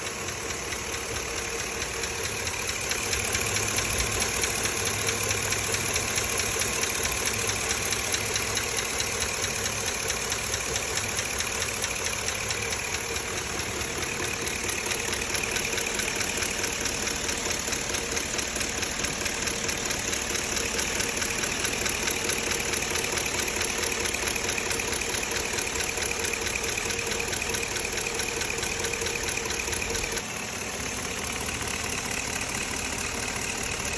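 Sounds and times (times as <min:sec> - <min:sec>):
engine idling: 0:00.0 - 0:33.9
fast engine ticking: 0:00.0 - 0:33.9.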